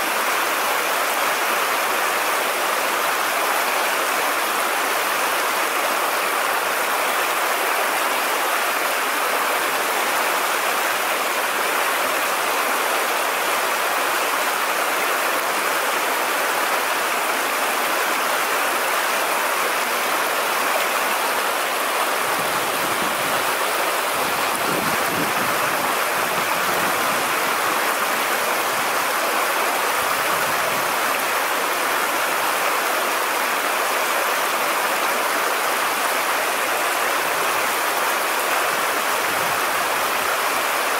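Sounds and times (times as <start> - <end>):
stream water rushing over shallows: 0.0 - 40.9.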